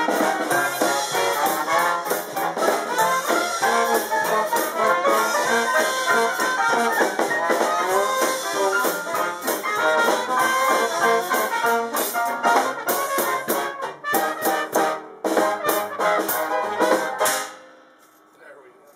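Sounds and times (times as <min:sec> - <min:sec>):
jazz band playing: 0:00.0 - 0:18.3.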